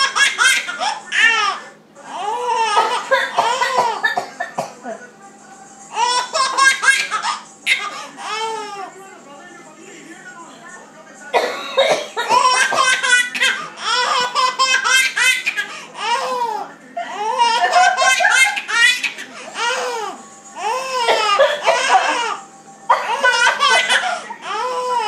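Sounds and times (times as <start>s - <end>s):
baby laughing: 0.0s - 4.3s, 5.9s - 8.9s, 12.2s - 25.0s.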